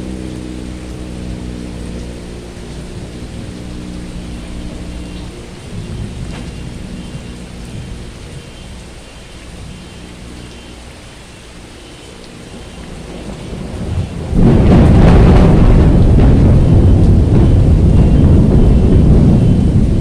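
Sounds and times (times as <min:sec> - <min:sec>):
heavy rain: 0:00.0 - 0:20.0
thunder rumble: 0:00.0 - 0:20.0.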